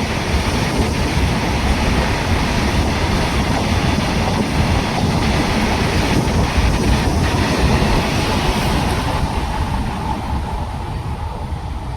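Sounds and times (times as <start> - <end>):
train passing at speed: 0.0 - 11.9.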